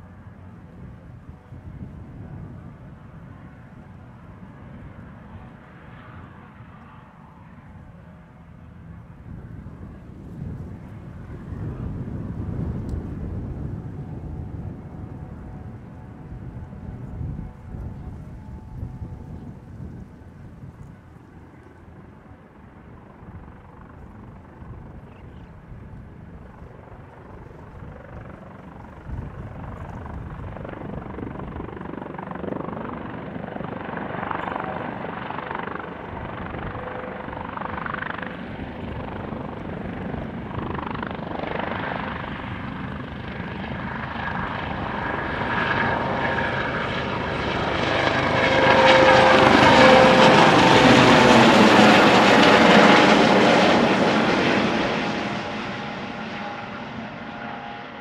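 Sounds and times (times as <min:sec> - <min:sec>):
helicopter turbines and rotors: 0:00.0 - 0:58.0
steady turbine whine: 0:00.0 - 0:58.0.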